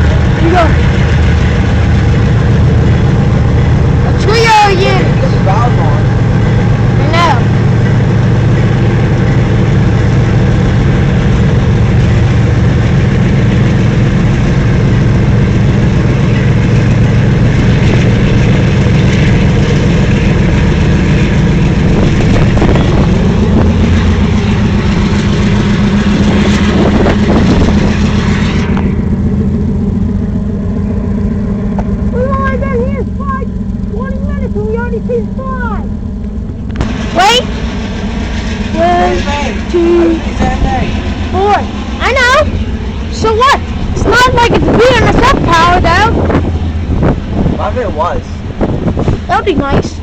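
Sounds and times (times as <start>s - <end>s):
diesel locomotive engine throb: 0.0s - 50.0s.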